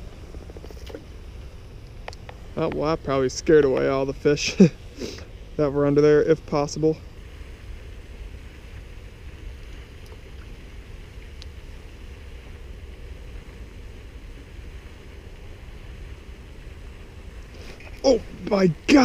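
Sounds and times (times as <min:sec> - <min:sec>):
low outdoor wind rumble: 0:00.0 - 0:19.0.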